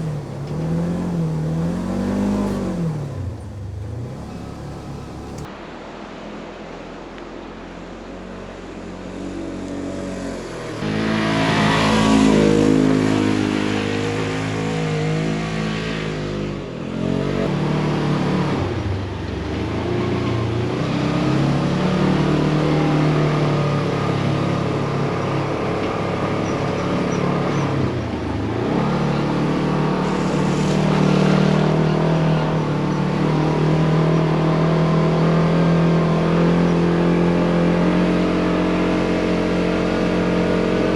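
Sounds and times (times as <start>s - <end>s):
engine revving: 0.0s - 5.5s, 10.8s - 24.5s, 25.5s - 40.9s.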